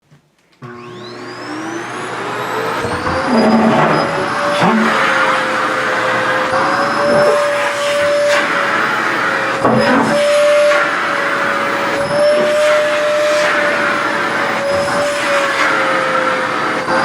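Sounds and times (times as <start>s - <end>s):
vacuum cleaner motor whine: 0.6s - 17.0s.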